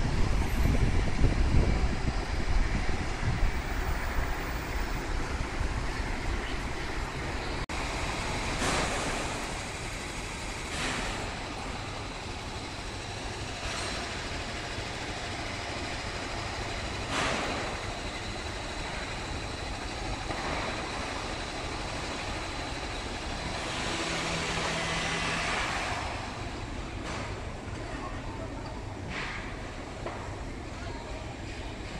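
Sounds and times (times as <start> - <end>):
road traffic rumble: 0.0 - 31.9
vehicles passing by: 0.0 - 31.9.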